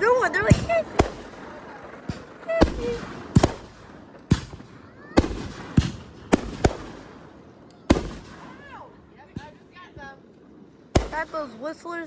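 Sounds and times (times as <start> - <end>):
fireworks bangs: 0.0 - 11.9.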